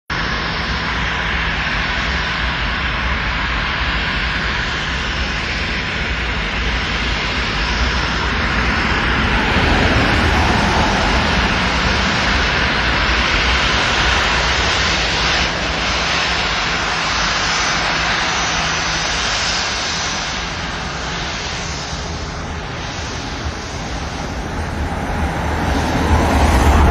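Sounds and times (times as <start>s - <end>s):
jet engines roaring: 0.1s - 26.9s.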